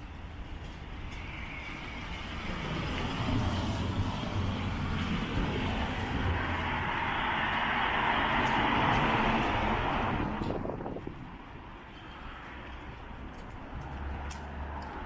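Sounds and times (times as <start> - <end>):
road vehicle approaching: 0.0 - 15.0.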